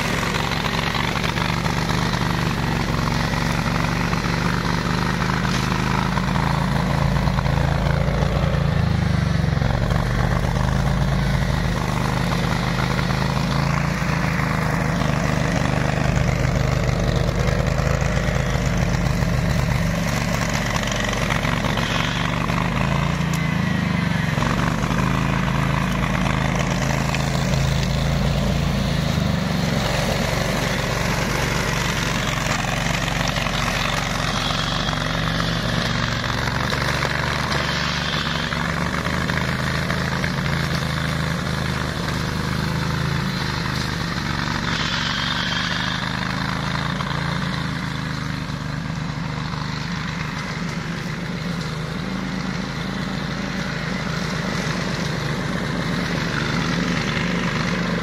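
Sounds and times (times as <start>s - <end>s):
mower engine running: 0.0s - 58.0s.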